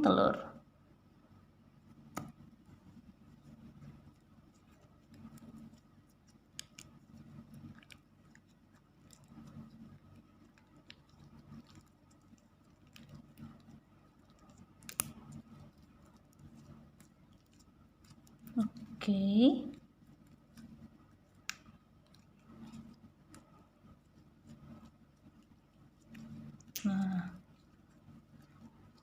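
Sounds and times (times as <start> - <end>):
spoon stirring slime: 1.8 - 29.0.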